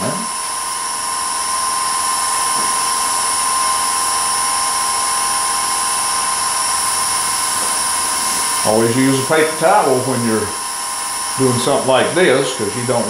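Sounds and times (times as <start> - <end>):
wood lathe motor whine: 0.0 - 13.0.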